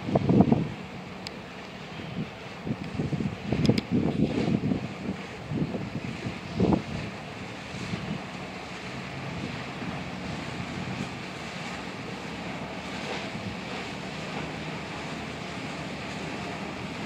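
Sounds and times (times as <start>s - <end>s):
wind on microphone: 0.0s - 1.2s, 1.8s - 17.0s
boat engine drone: 0.0s - 17.0s
boat wake washing: 0.0s - 17.0s.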